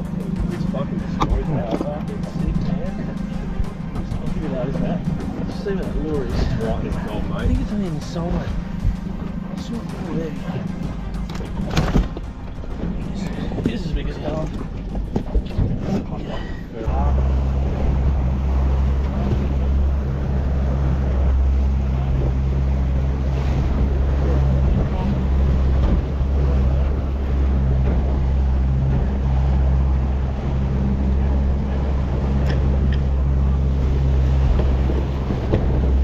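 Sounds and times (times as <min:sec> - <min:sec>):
outboard motor running: 0:00.0 - 0:36.0
water rushing past hull: 0:00.0 - 0:36.0.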